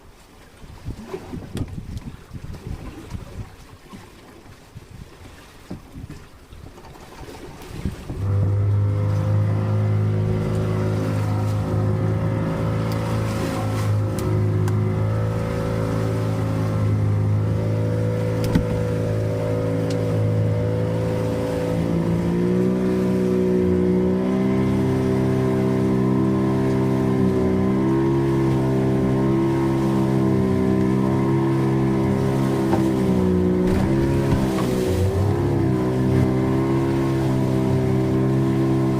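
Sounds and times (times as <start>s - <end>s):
boat engine running: 5.6s - 38.9s.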